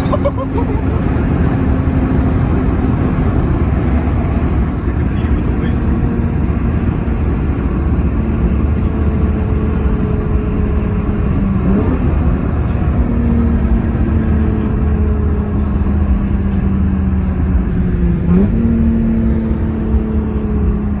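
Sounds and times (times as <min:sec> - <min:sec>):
car engine drone: 0:00.0 - 0:21.0.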